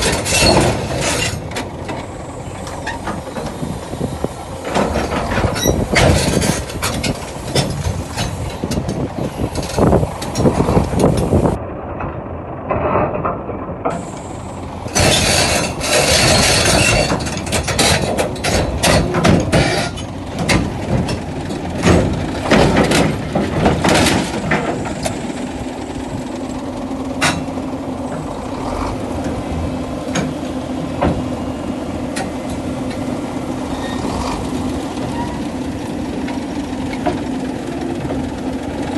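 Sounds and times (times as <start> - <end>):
diesel engine running: 0.0 - 38.9
steel tracks clanking: 0.0 - 38.9.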